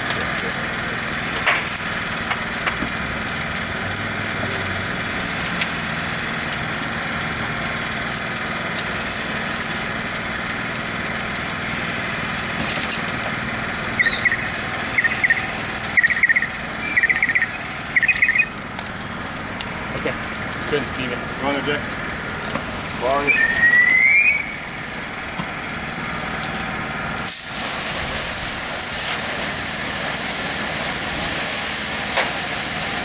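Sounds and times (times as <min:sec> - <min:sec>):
fire crackling and snapping: 0:00.0 - 0:33.0
steady mechanical hum: 0:00.0 - 0:33.0.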